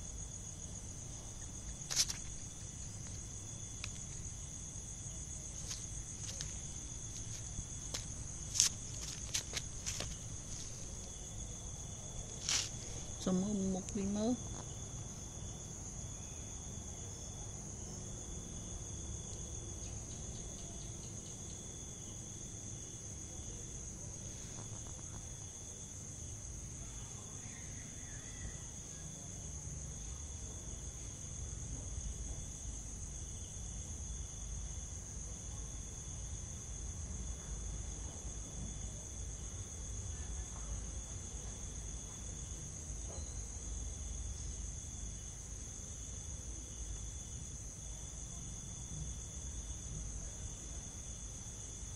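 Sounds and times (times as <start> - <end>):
insects chorus: 0.0 - 51.9.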